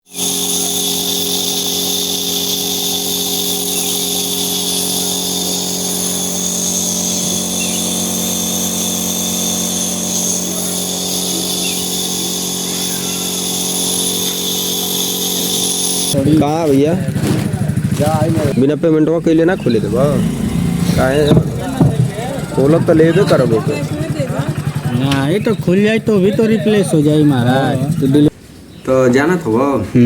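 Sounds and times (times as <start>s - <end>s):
high whine: 0.0s - 28.3s
machine motor humming: 0.0s - 28.3s.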